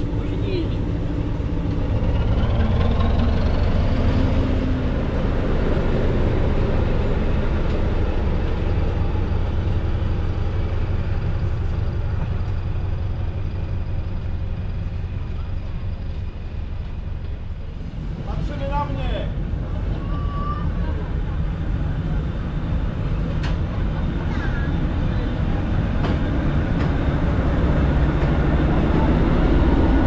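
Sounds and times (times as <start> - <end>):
diesel train rumbling: 0.0 - 30.0.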